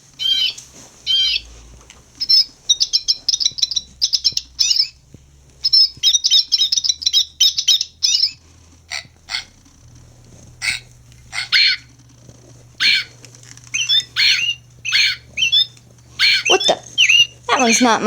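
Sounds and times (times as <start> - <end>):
harsh toy bird calls: 0.2 - 1.5, 2.2 - 5.0, 5.6 - 9.6, 10.6 - 12.0, 12.7 - 18.0
toy bird chirps: 0.2 - 1.5, 2.2 - 5.0, 5.6 - 9.6, 10.6 - 11.9, 12.8 - 18.0.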